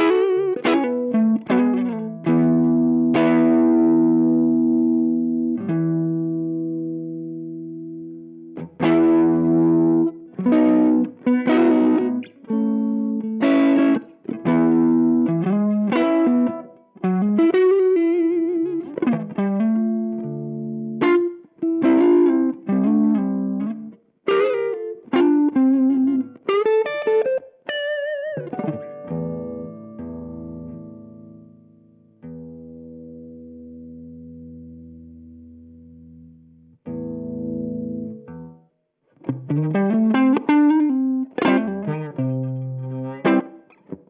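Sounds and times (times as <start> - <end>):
overdriven electric guitar chords: 0.0 - 44.0.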